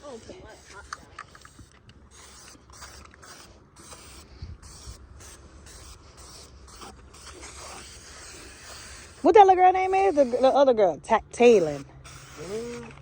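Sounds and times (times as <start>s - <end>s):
aerosol spray can hissing: 0.0s - 10.7s, 11.5s - 13.0s.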